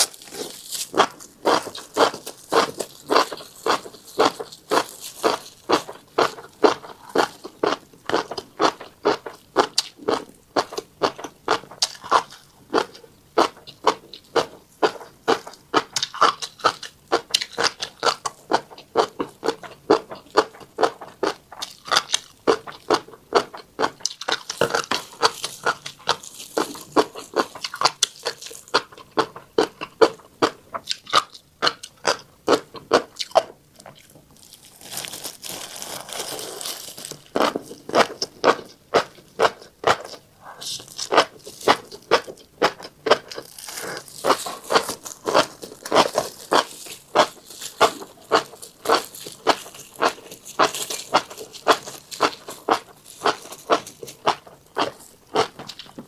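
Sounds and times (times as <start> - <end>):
chewing crunchy seeds: 0.0 - 56.0.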